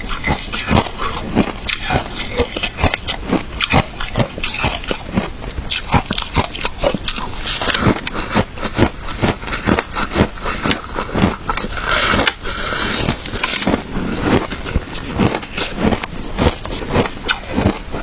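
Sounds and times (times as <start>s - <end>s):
person chewing crunchy ice: 0.0s - 18.0s.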